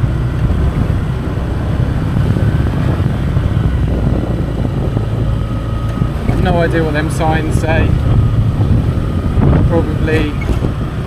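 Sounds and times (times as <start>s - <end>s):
motorbike engine drone: 0.0s - 11.0s
wind buffeting microphone: 0.0s - 11.0s.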